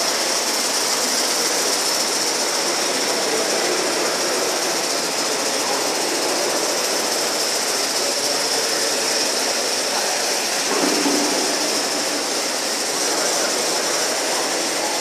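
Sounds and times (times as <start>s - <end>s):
large hall background noise: 0.0s - 15.0s
model steam locomotives hissing: 0.0s - 15.0s.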